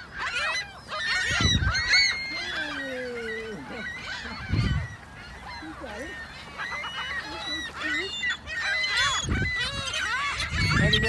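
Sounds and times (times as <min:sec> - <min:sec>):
flock of birds squawking: 0:00.0 - 0:11.0.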